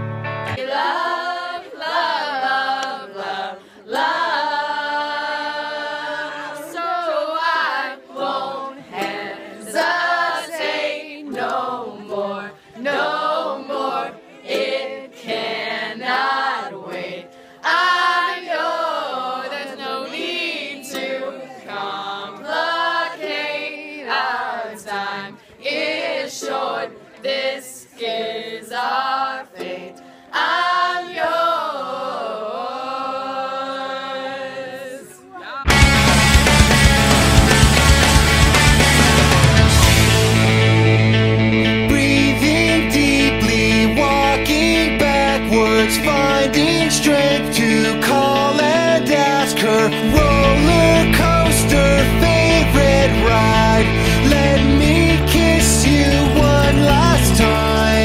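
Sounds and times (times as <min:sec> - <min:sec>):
group singing: 0:00.6 - 0:41.0, 0:41.8 - 0:58.0.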